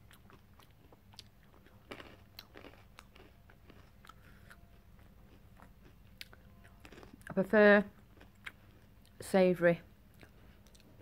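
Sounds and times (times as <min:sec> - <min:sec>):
crunching and chewing peanuts: 0:00.0 - 0:09.3, 0:10.1 - 0:11.0.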